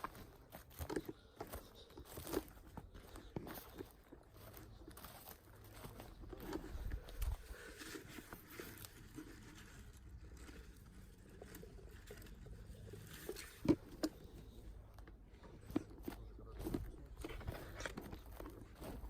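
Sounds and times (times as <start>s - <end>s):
rustling on forest floor: 0.0s - 19.0s
sharp crunches and snaps: 0.0s - 19.0s.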